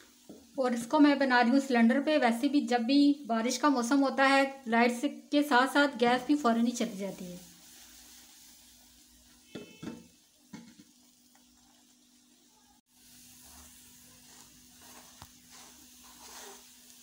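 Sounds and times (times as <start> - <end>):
batter sizzling in frying pan: 0.0 - 17.0.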